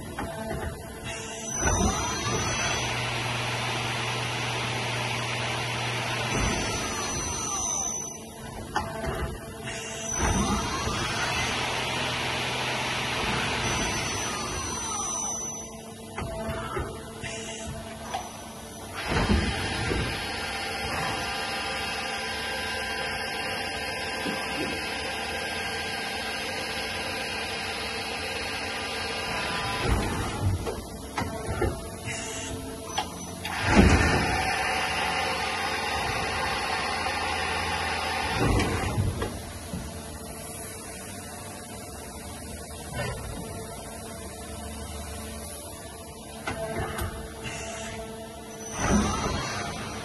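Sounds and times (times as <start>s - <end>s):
drive motors whining: 0.0s - 50.0s
lathe machine whir: 0.0s - 50.0s.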